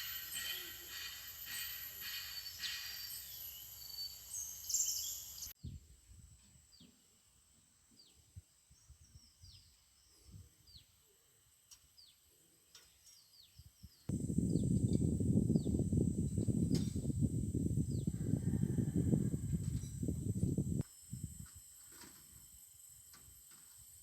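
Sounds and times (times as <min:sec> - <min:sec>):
chorus of insects and birds: 0:00.0 - 0:05.8, 0:06.8 - 0:24.0.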